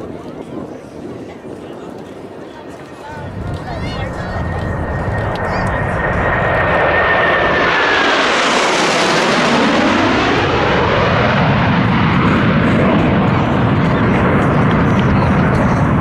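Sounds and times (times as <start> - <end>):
jets flying past: 2.7 - 16.0.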